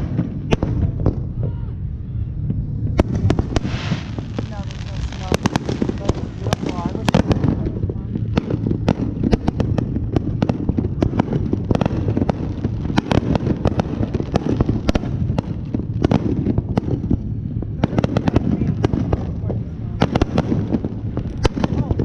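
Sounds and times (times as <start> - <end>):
fireworks cracking and banging: 0.0 - 1.8, 2.4 - 22.0
continuous low rumble: 0.0 - 22.0.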